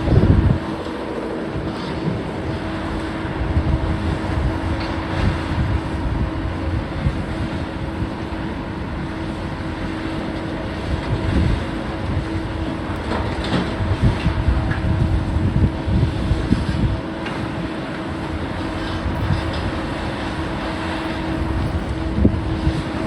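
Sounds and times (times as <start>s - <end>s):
heavy machinery engine rumbling: 0.0s - 23.0s
machinery whine: 0.0s - 23.0s.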